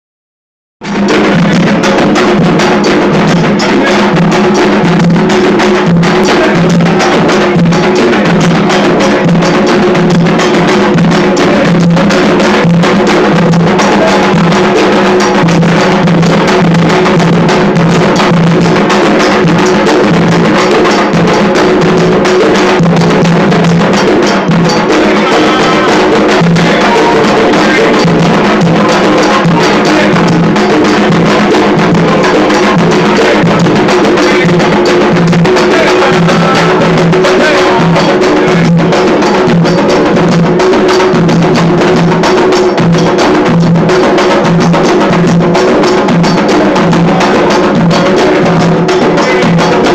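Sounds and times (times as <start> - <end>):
hand drums playing: 0.8 - 49.9.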